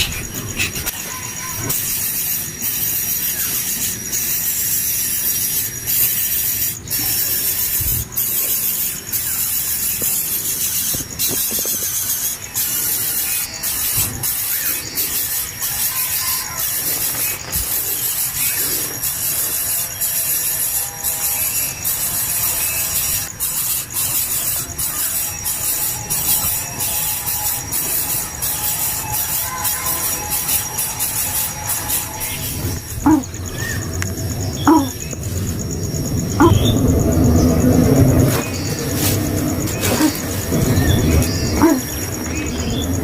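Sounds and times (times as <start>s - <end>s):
thin constant whine: 0.0s - 43.0s.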